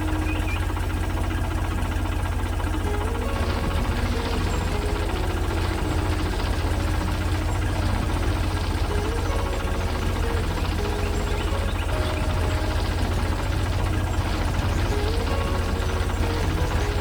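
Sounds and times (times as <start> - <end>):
heavy machine engine droning: 0.0 - 17.0.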